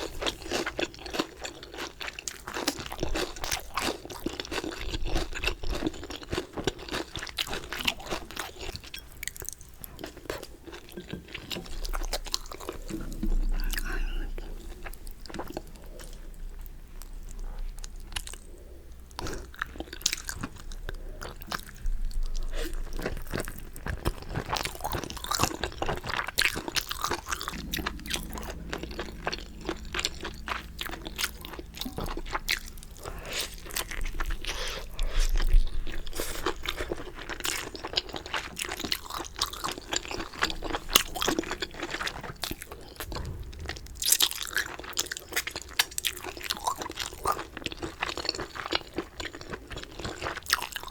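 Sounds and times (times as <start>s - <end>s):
chewing: 0.0s - 50.9s.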